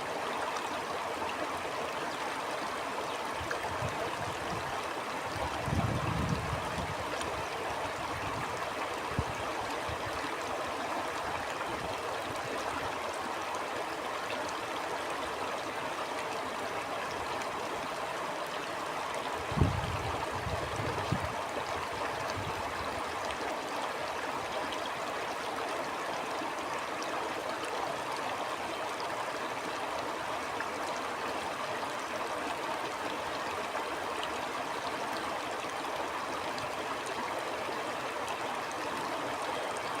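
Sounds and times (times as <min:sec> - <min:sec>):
stream flowing: 0:00.0 - 0:40.0.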